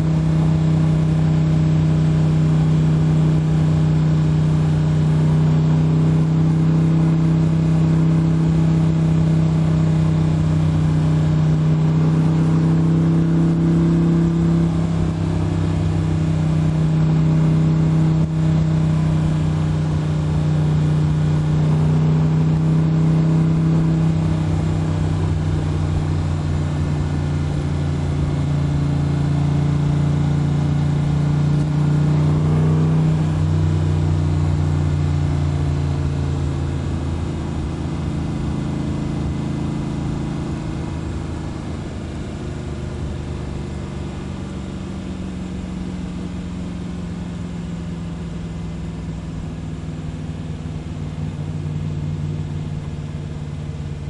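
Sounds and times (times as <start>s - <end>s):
car engine cruising: 0.0s - 54.0s
road noise: 0.0s - 54.0s.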